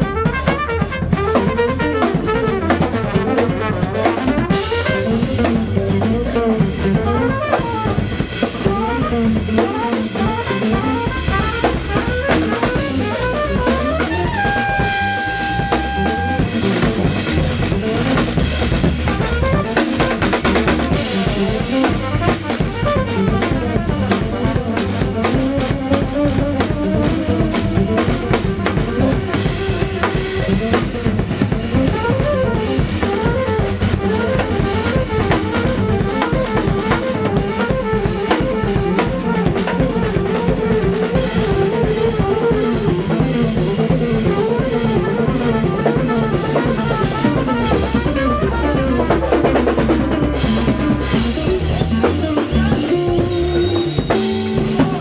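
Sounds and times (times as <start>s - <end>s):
bass lines: 0.0s - 55.0s
drum kit played busily: 0.0s - 55.0s
electric guitar: 0.0s - 55.0s.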